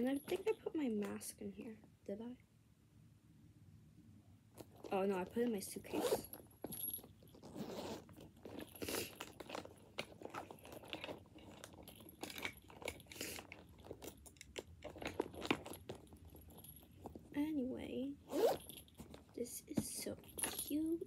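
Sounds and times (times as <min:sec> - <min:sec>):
rummaging in leather handbag: 0:00.0 - 0:01.9, 0:04.6 - 0:17.5, 0:18.1 - 0:21.0.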